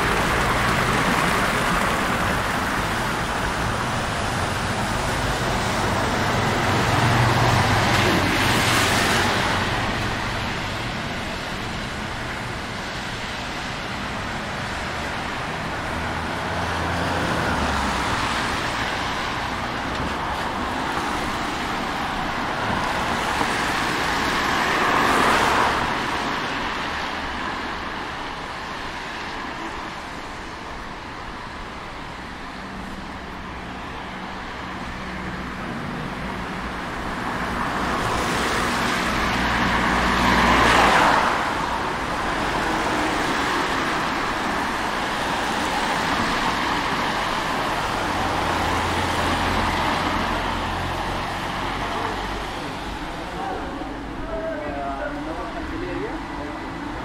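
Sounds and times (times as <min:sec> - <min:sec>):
traffic background hum: 0:00.0 - 0:57.0
vehicles passing close by: 0:00.0 - 0:57.0.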